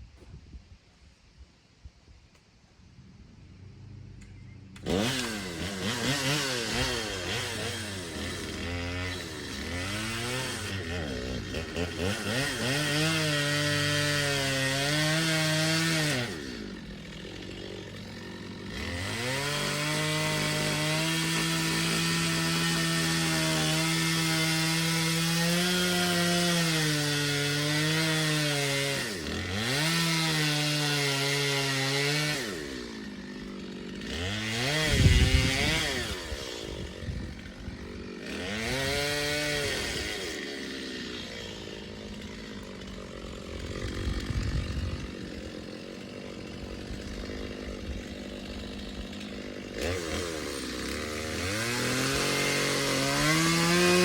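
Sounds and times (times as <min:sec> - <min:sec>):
chainsaw revving and idling: 0:03.6 - 0:54.0
chainsaw cutting wood: 0:03.9 - 0:54.0.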